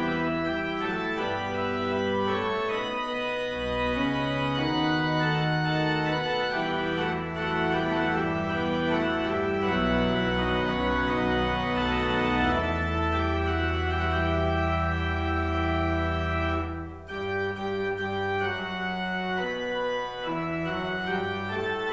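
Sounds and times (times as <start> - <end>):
organ playing chords: 0.0 - 21.9.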